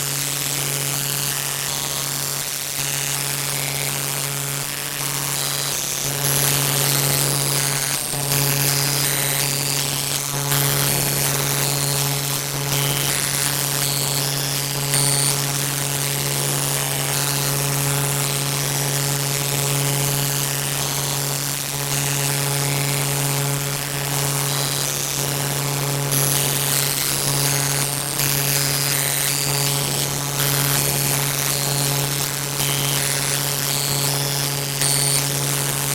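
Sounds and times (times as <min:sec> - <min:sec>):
loud buzzing drone: 0:00.0 - 0:35.9.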